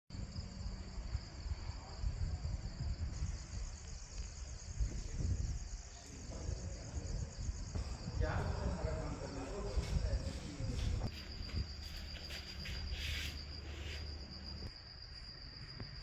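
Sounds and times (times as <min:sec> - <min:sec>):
crickets chirping: 0:00.1 - 0:16.0.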